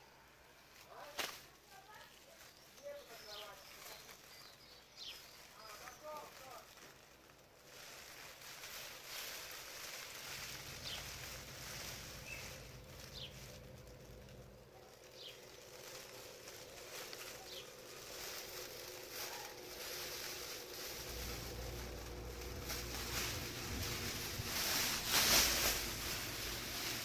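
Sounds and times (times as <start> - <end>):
soft steady hiss: 0.0 - 27.0.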